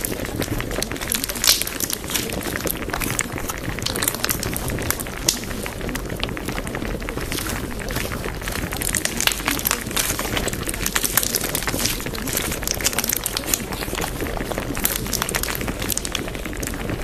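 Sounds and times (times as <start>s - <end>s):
crackling hiss with pops: 0.0s - 17.0s.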